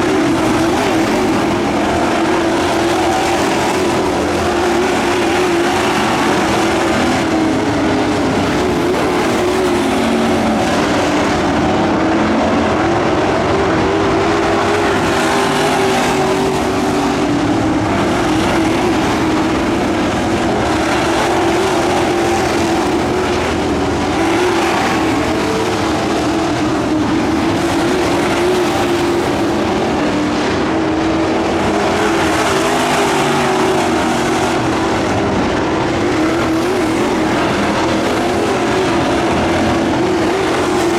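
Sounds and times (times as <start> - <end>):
race truck engines droning: 0.0 - 40.9.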